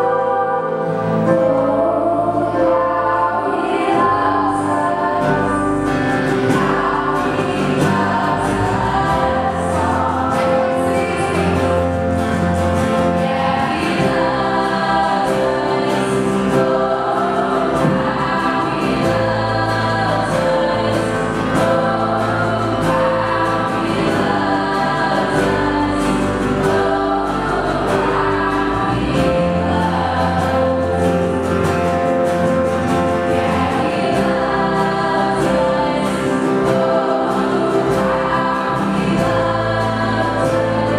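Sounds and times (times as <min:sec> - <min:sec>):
acoustic and electric guitars: 0:00.0 - 0:40.9
female singers singing together: 0:00.0 - 0:40.9.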